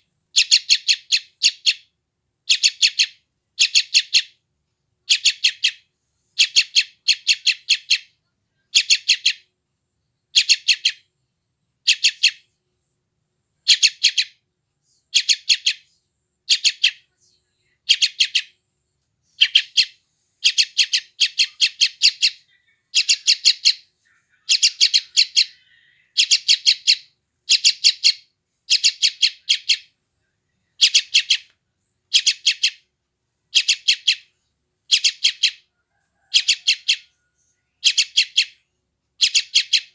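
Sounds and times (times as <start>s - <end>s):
bird chick chirping: 0.3s - 1.9s, 2.5s - 4.4s, 5.0s - 9.5s, 10.3s - 11.1s, 11.8s - 12.6s, 13.6s - 14.4s, 15.0s - 18.6s, 19.3s - 30.0s, 30.6s - 32.9s, 33.5s - 39.9s.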